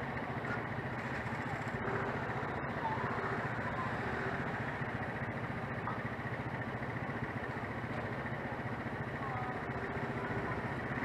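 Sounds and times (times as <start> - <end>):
car engines running: 0.0 - 11.0
motor scooter engine: 0.0 - 11.0.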